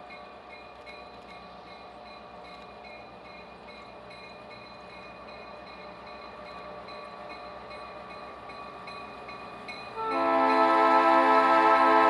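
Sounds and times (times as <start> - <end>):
locomotive engine hum: 0.0 - 12.0.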